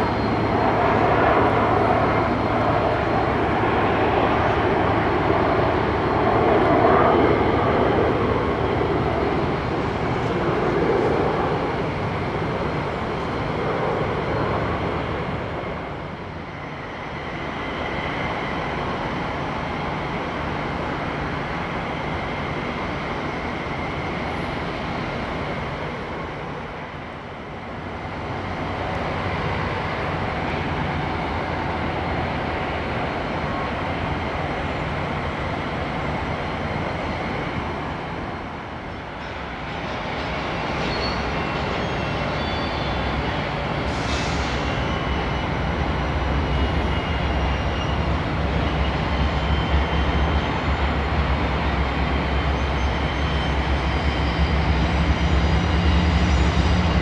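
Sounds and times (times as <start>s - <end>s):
diesel freight train rumbling: 0.0s - 57.0s.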